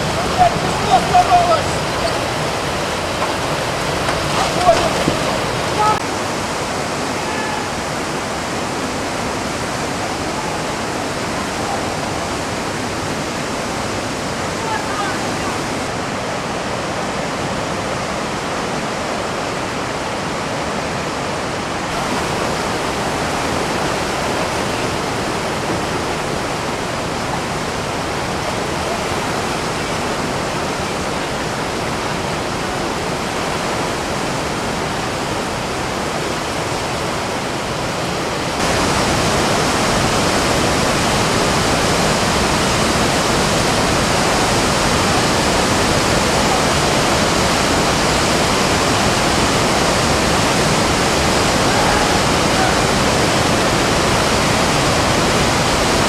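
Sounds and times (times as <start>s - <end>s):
river rapids roaring: 0.0s - 56.0s.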